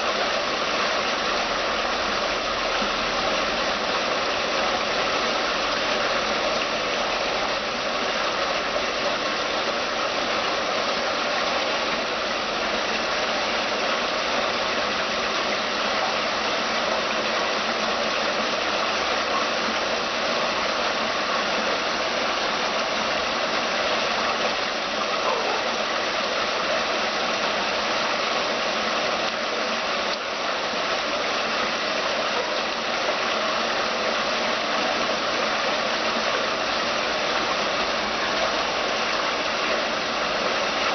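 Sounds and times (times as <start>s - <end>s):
fountain water rushing: 0.0s - 40.9s.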